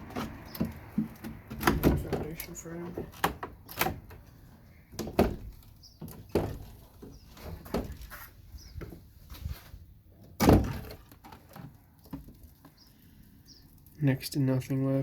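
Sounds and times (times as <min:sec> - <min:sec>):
wooden frames knocking and scraping: 0:00.0 - 0:12.8.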